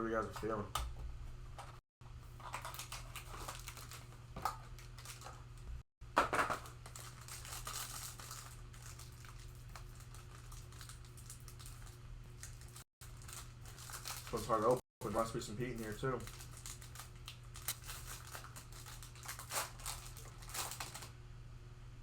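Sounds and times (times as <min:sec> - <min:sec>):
plastic wrapper crinkling and tearing: 0:02.4 - 0:05.5, 0:06.5 - 0:21.1.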